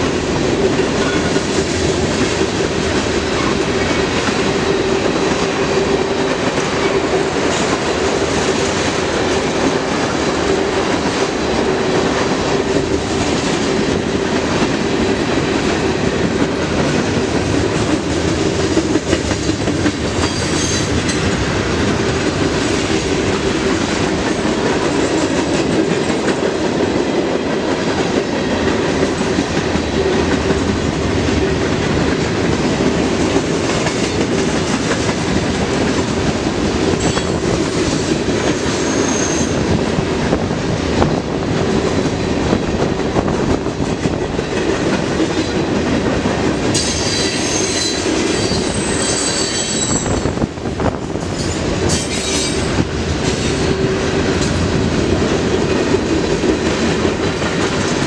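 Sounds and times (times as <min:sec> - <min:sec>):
freight train rumbling: 0:00.0 - 0:58.0.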